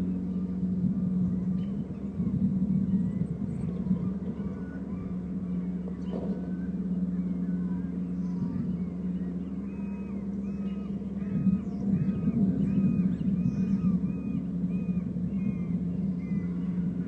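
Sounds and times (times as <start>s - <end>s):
steady low drone: 0.0s - 17.0s
high-pitched bird calls: 0.1s - 17.0s.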